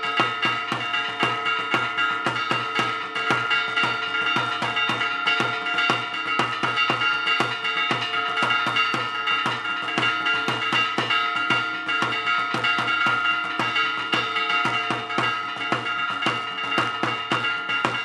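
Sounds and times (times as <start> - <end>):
church bells ringing rapidly: 0.0 - 18.0
drum beaten with a stick: 0.0 - 18.0.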